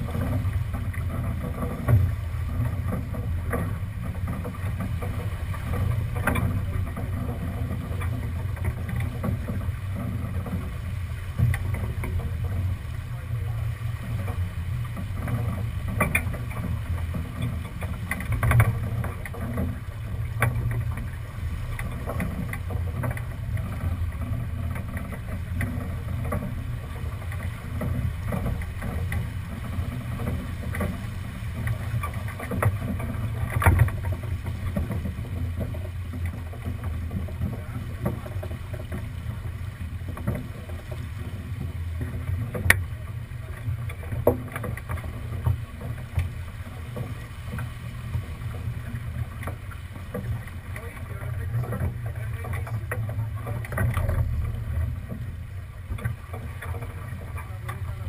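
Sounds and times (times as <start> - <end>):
wind and water rumble: 0.0 - 58.0.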